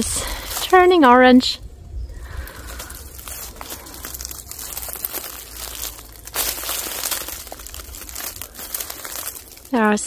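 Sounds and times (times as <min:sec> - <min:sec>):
leaves and twigs crackling: 0:00.0 - 0:10.0
low steady rumble: 0:00.0 - 0:10.0.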